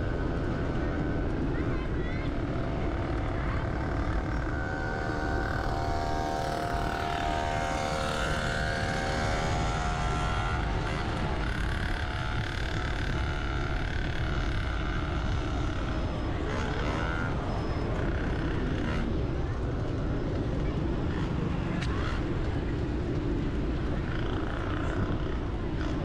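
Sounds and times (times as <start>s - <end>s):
passing motorbikes and cars: 0.0s - 26.0s
road and wind noise rumble: 0.0s - 26.0s.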